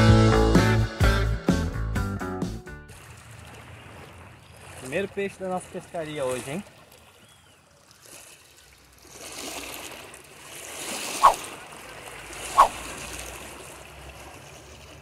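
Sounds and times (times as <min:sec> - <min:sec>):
short sharp splashes: 0:02.9 - 0:15.0
water splashing at shoreline: 0:02.9 - 0:15.0.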